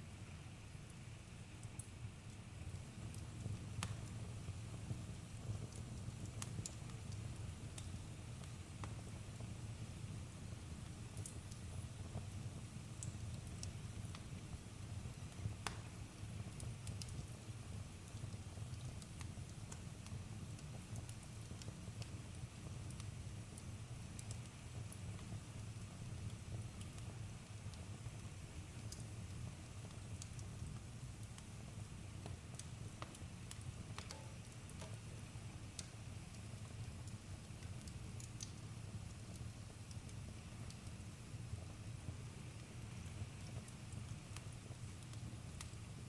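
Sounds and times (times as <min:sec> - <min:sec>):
wood crackling and popping: 0:01.6 - 0:46.0.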